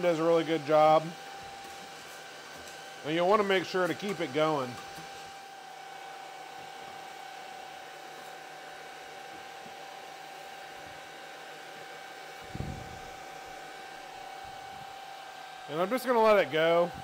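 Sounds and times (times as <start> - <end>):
fan rushing air with whine: 0.0 - 17.0.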